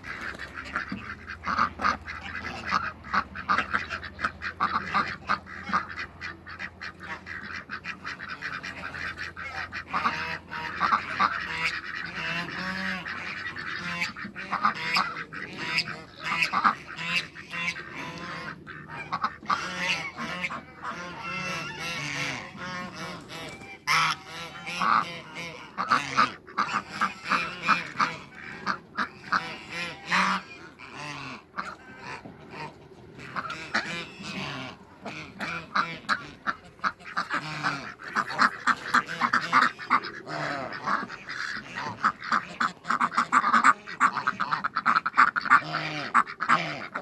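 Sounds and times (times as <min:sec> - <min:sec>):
ducks quacking: 0:00.0 - 0:47.0.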